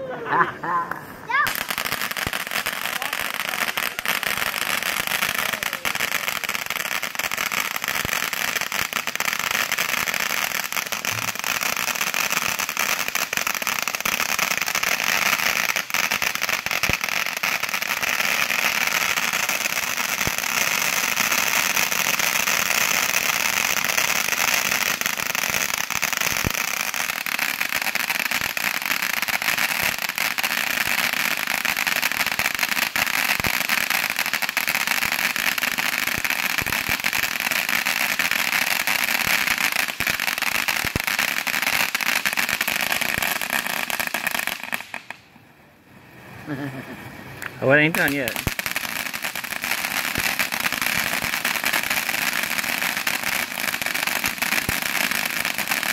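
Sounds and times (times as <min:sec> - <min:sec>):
firework fountain hissing: 0:01.0 - 0:45.2, 0:45.9 - 0:55.9.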